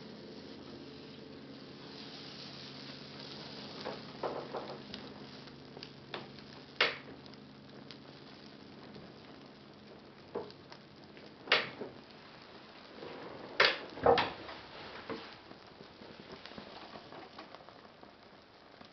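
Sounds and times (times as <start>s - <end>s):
paper burning crackle: 0.0s - 18.9s.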